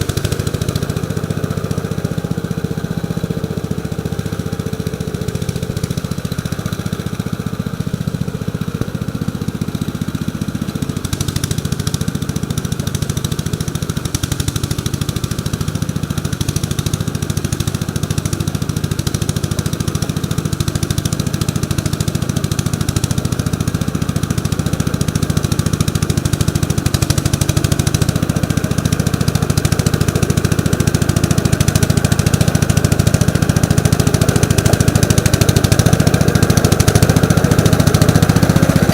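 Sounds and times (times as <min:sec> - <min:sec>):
single-cylinder engine running: 0:00.0 - 0:38.9.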